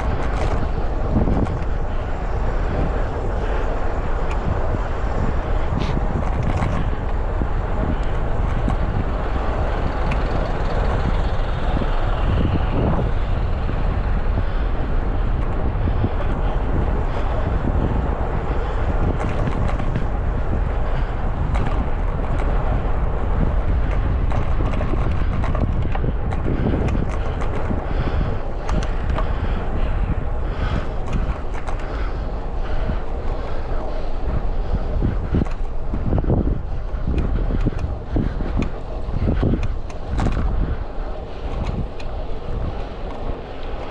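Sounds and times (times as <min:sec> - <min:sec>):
road traffic passing: 0:00.0 - 0:43.9
wind rushing over microphone: 0:00.0 - 0:43.9.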